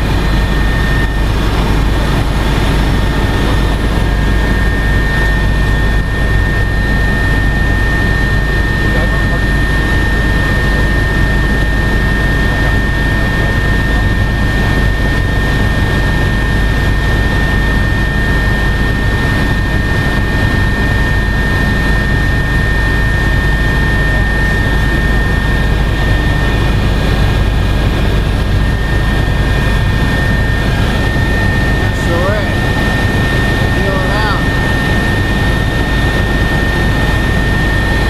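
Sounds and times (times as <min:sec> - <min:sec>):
helicopter engine and rotor drone: 0:00.0 - 0:38.0
high steady whine: 0:00.0 - 0:38.0.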